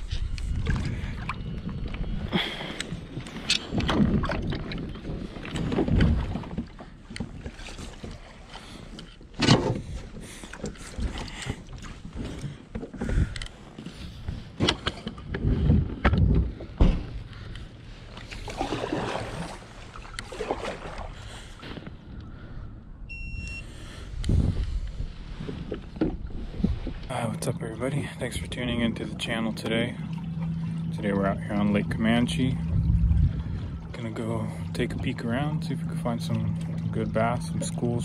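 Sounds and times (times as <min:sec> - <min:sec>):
low rumbling: 0:00.0 - 0:38.0.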